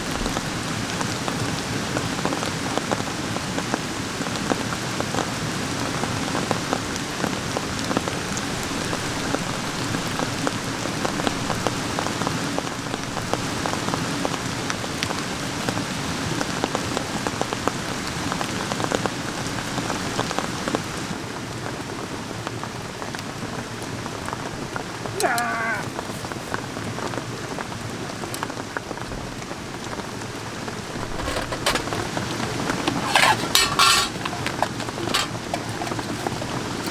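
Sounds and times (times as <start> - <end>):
steady rain falling: 0.0 - 31.3.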